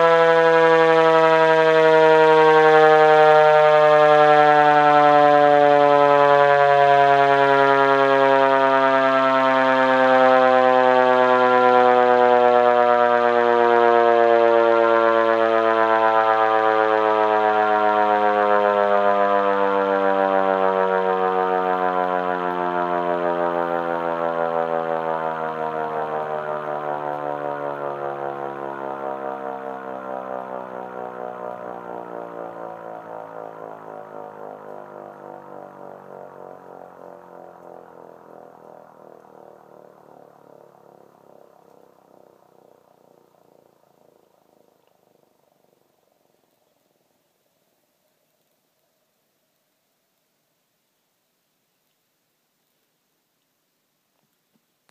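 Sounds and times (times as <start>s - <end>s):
siren winding down: 0.0s - 44.3s.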